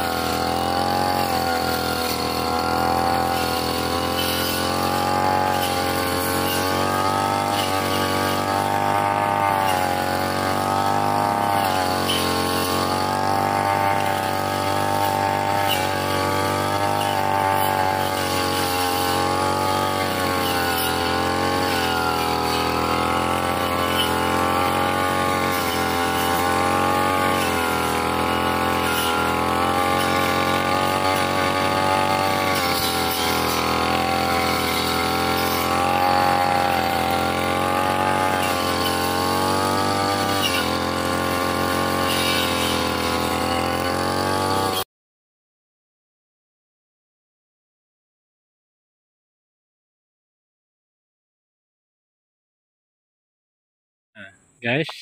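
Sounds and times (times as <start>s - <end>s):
blade cutting grass and stems: 0.0s - 44.8s
brush cutter engine running: 0.0s - 44.8s.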